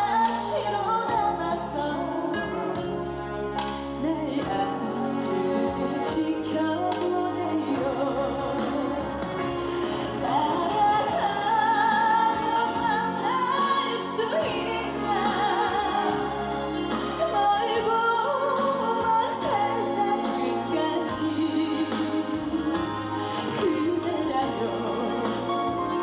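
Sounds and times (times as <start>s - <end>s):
backing band playing: 0.0s - 26.0s
woman singing: 0.0s - 26.0s.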